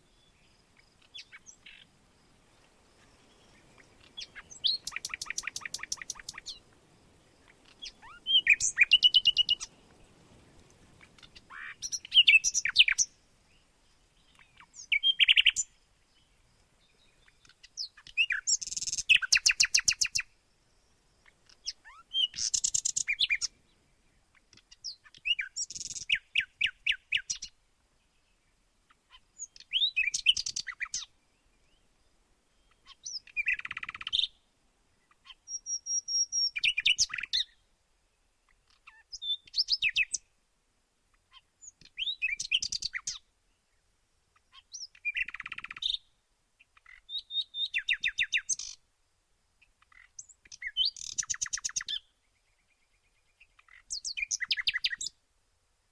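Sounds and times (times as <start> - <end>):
songbirds singing: 0.0 - 40.5, 41.1 - 48.9, 49.6 - 55.2.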